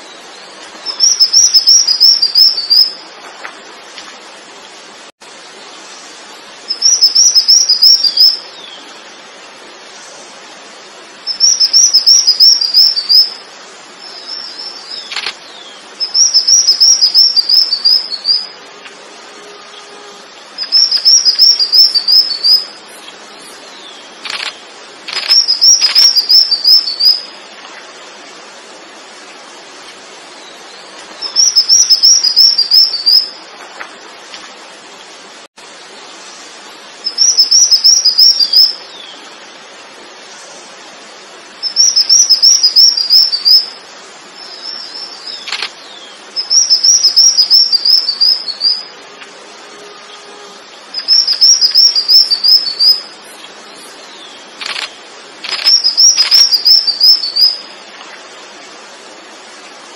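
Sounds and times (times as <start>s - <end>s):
songbird singing: 0.0s - 40.6s, 41.3s - 59.9s
faint steady hiss: 0.0s - 59.9s.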